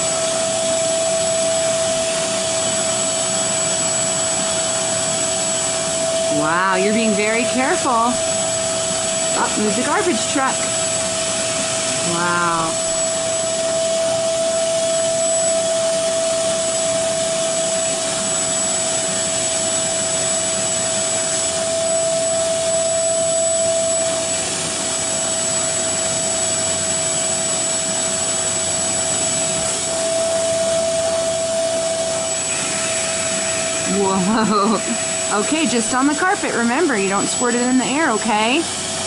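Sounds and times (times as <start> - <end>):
carpet shampooer running: 0.0 - 39.0.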